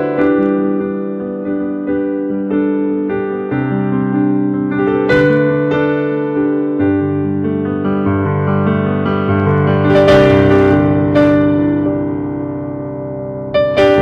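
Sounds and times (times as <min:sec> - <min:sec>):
keyboard music with held chords: 0:00.0 - 0:14.0.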